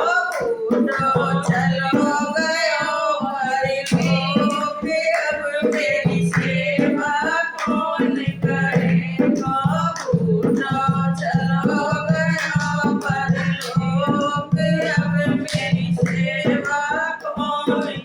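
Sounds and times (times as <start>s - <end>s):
man singing devotional song: 0.0s - 18.0s
sharp percussion strokes: 0.0s - 18.0s.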